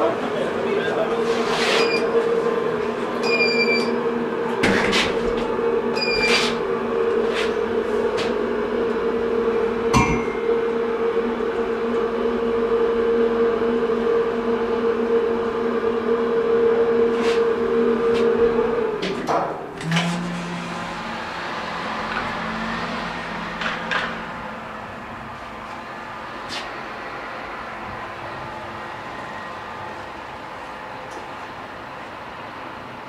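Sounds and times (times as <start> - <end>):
elevator drive hum: 0.0 - 33.0.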